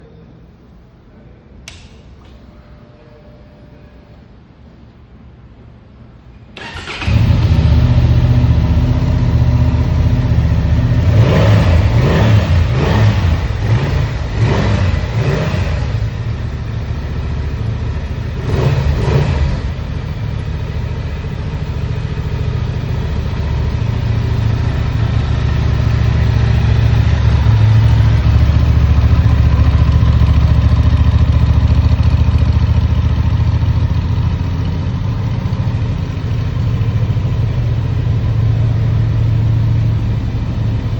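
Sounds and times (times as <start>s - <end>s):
motorcycle engine idling: 6.6s - 40.9s.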